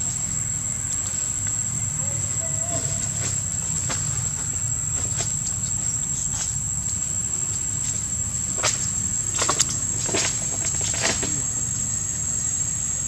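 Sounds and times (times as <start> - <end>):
crackles in dry leaves: 0.0 - 13.0
high-pitched insect drone: 0.0 - 13.0.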